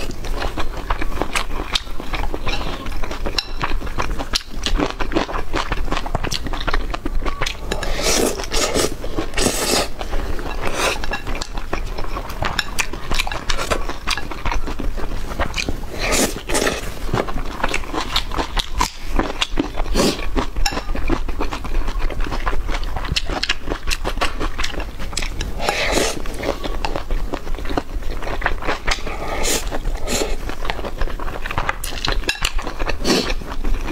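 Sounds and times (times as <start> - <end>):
chewing and biting: 0.0 - 33.9.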